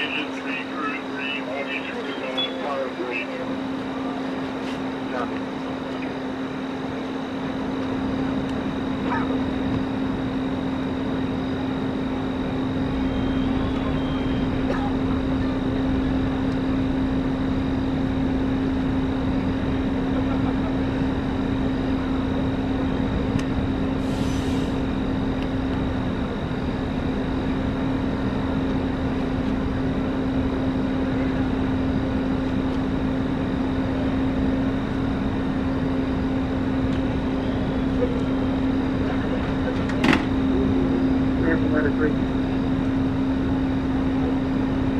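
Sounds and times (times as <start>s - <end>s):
vehicle engine droning hum: 0.0s - 44.9s.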